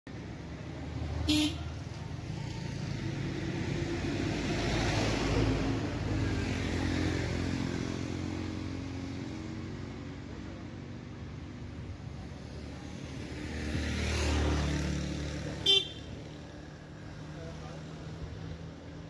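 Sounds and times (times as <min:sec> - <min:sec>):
vehicle passing by: 0:00.2 - 0:19.0.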